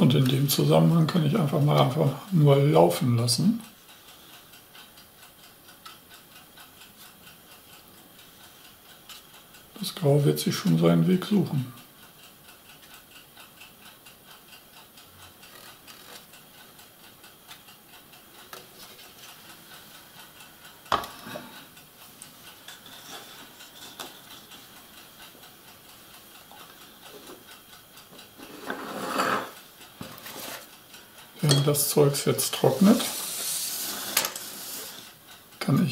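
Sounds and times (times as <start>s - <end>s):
steady quiet ticking: 0.0s - 35.9s.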